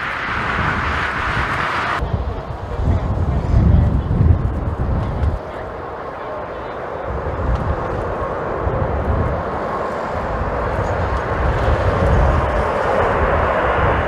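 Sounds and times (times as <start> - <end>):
jet airliner engines: 0.0 - 14.0
wind buffeting microphone: 0.0 - 14.0.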